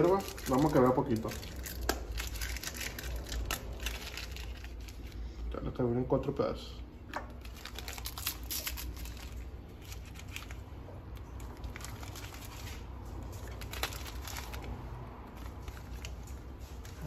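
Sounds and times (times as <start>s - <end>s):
paper wrapper crinkling: 0.0s - 5.5s, 7.1s - 17.0s.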